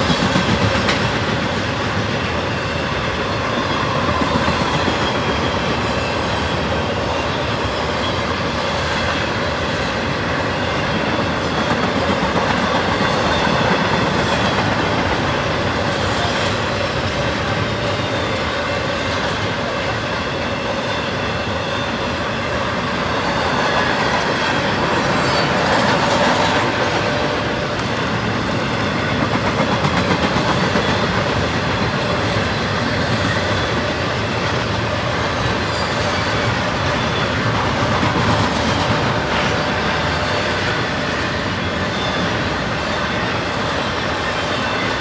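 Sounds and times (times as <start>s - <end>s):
train wheels on rail: 0.0s - 45.0s.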